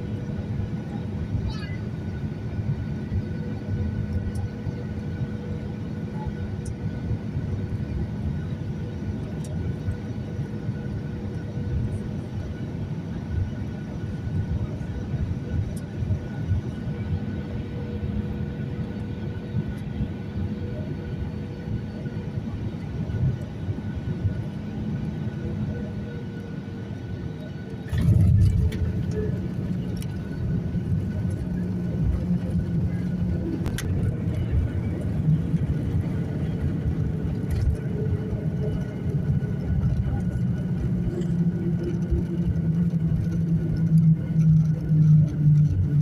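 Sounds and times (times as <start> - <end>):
airliner engines rumbling: 0.0 - 46.0
faint steady hums: 0.0 - 46.0.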